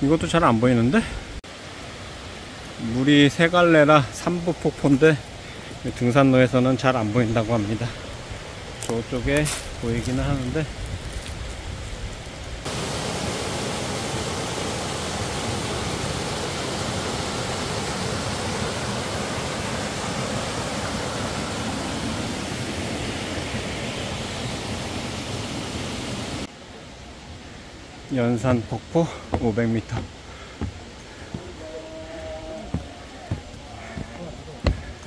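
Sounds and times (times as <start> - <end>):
stream rushing over rocks: 0.2 - 35.0.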